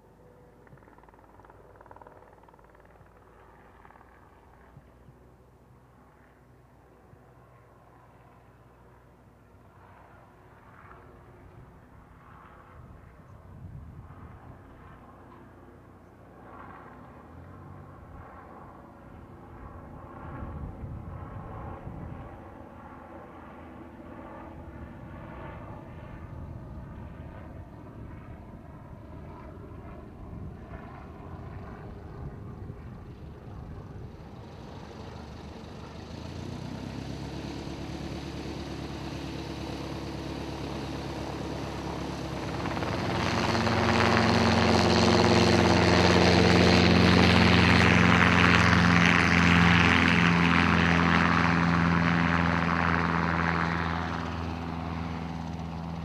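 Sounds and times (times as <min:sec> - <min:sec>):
helicopter engine and rotor: 0:00.0 - 0:56.0
plane engine drone: 0:00.0 - 0:56.0.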